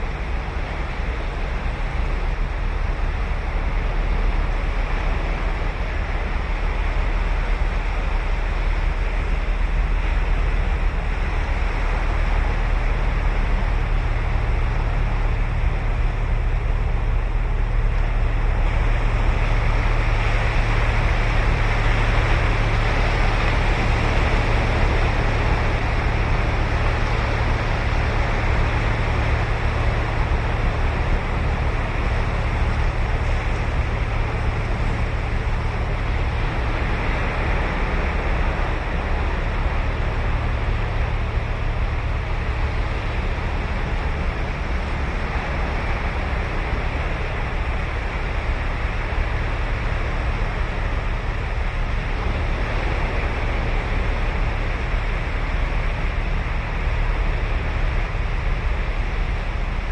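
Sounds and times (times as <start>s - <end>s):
low rumble: 0.0s - 59.9s
ocean surf breaking on beach: 0.0s - 59.9s.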